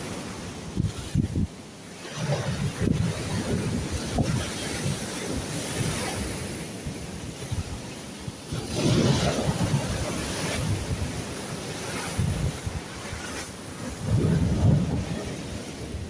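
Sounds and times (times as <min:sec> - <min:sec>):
sea waves washing on shore: 0:00.0 - 0:16.0
wind buffeting microphone: 0:00.0 - 0:16.0.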